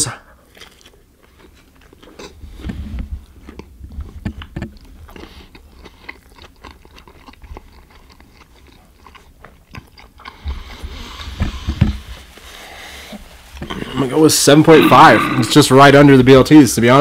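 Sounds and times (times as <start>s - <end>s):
man chewing food: 0.3s - 12.2s, 13.1s - 15.5s.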